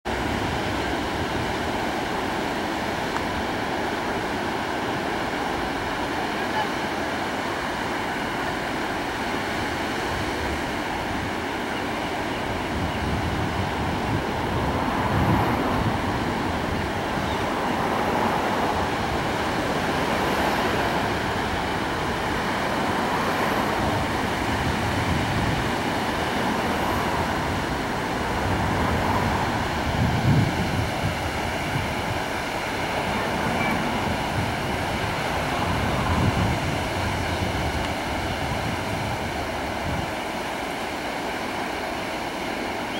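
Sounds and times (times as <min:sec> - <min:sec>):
ocean waves breaking: 0:00.0 - 0:42.9
wind buffeting microphone: 0:00.1 - 0:41.9.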